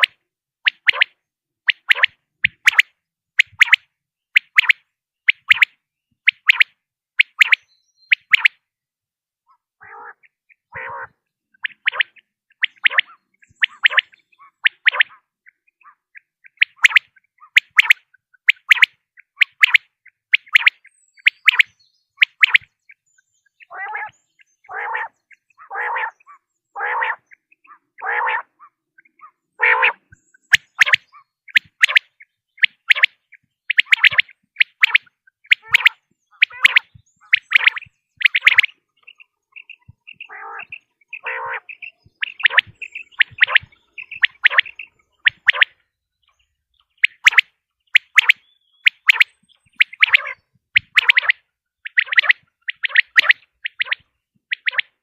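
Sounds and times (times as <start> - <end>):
quail calling: 9.5 - 55.0.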